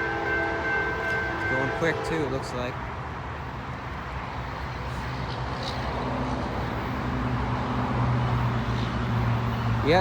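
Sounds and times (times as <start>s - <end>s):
diesel locomotive engine drone: 0.0s - 10.0s
train wheels rumbling on rail: 0.0s - 10.0s.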